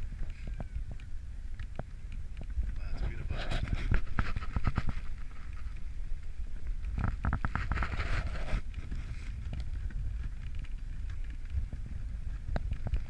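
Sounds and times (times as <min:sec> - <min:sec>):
sled runners rumbling on snow: 0:00.0 - 0:13.0
wind on microphone: 0:00.0 - 0:13.0.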